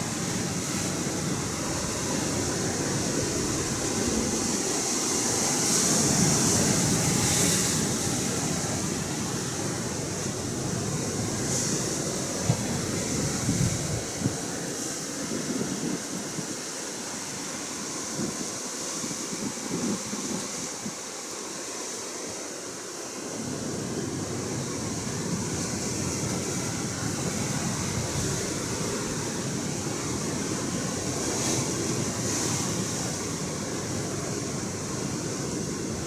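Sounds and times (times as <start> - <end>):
wind rumbling on microphone: 0.0 - 21.3, 23.3 - 36.0
ocean surf washing: 0.0 - 36.0.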